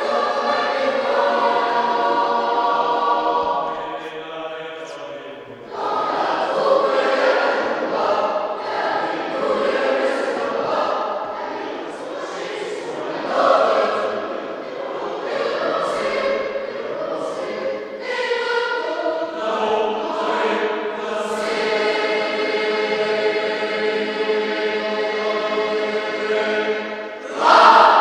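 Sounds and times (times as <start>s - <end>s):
boys' choir singing: 0.0s - 28.0s.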